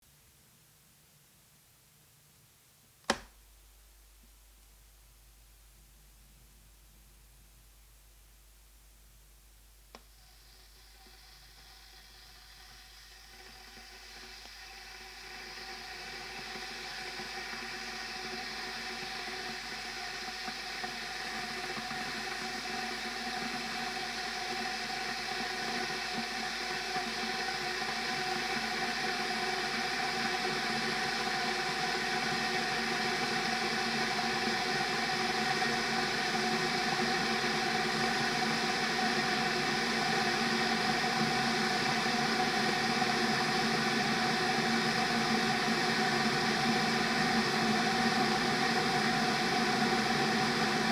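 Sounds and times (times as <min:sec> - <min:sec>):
kettle hissing toward boil: 0:10.0 - 0:50.9.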